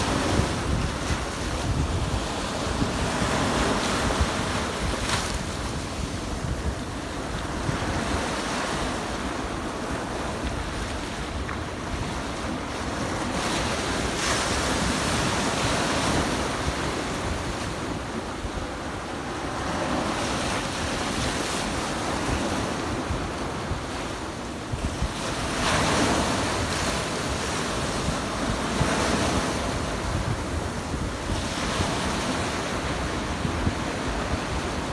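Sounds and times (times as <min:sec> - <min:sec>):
waves breaking on beach: 0:00.0 - 0:34.9
wind buffeting microphone: 0:00.0 - 0:34.9.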